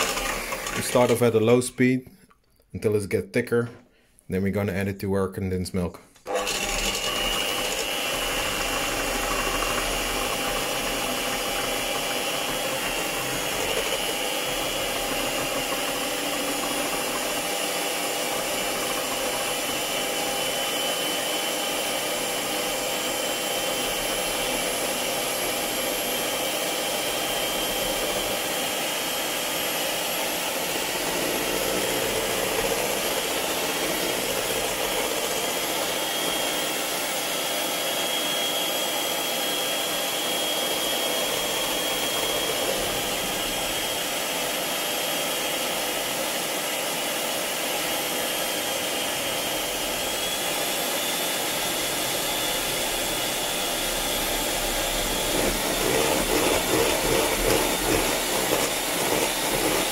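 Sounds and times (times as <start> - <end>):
electric hand mixer whirring: 0.0 - 1.5, 6.2 - 59.9.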